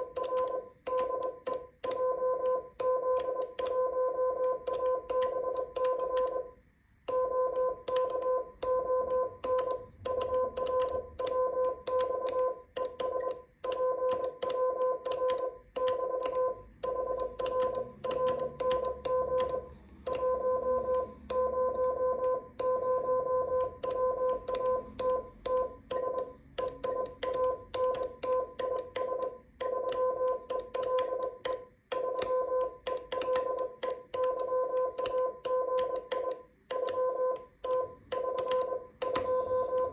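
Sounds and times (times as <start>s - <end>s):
morse code sidetone buzzing: 0.0s - 39.9s.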